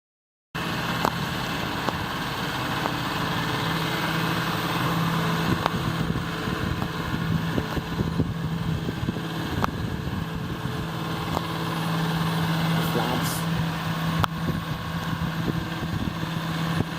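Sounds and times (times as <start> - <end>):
tractor diesel engine running: 0.6 - 16.9
wind buffeting microphone: 0.7 - 12.8, 13.4 - 16.9.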